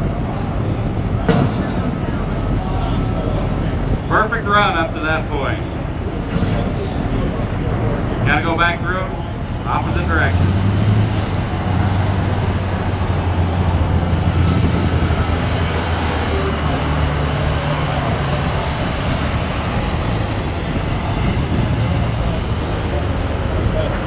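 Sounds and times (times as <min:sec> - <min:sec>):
skid steer diesel engine running: 0:00.0 - 0:24.0.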